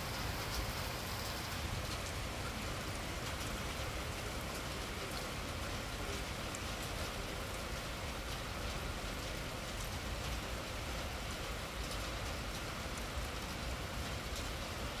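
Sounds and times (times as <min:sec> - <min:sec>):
torrential rain on street: 0:00.0 - 0:15.0.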